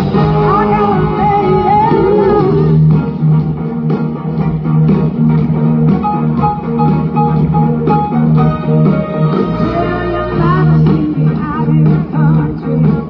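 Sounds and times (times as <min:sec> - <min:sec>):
electric guitar bending pitch: 0:00.0 - 0:11.3
live rock band playing: 0:00.0 - 0:13.0.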